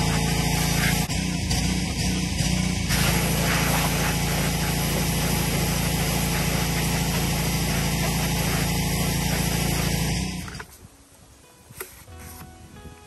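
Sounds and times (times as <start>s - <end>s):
pressure washer engine running: 0.0s - 10.7s.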